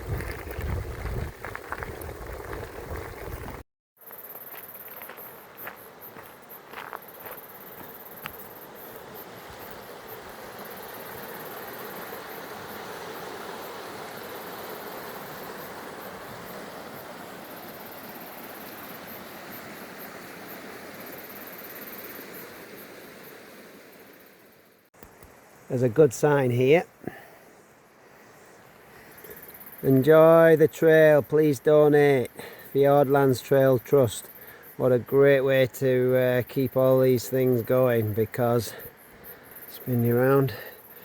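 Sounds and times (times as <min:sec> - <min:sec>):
high-pitched insects chirring: 0:04.0 - 0:41.0.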